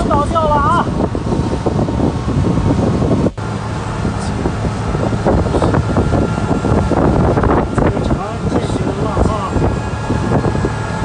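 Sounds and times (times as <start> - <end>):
boat engine hum: 0.0 - 11.0
water rushing along hull: 0.0 - 11.0
wind buffeting microphone: 0.0 - 11.0.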